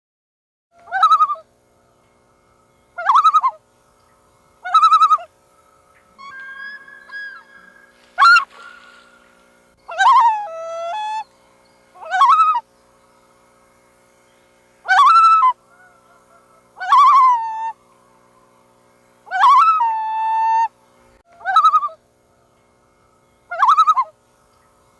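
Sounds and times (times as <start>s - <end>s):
loons calling: 0.8s - 24.9s.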